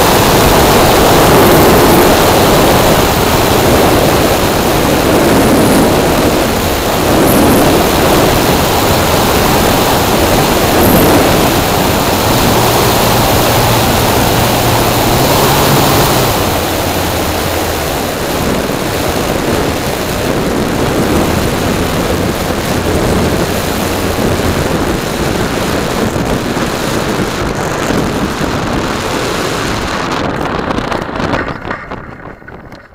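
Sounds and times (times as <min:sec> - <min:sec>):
low propeller motor hum: 0:00.0 - 0:32.9
rushing wind noise: 0:00.0 - 0:32.9.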